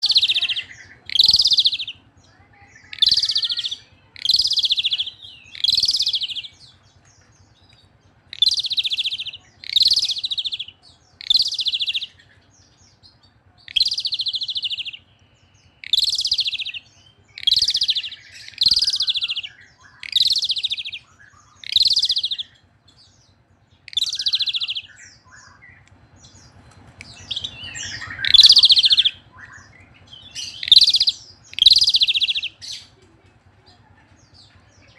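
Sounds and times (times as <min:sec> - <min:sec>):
starling harsh rasping calls: 0:00.0 - 0:33.0.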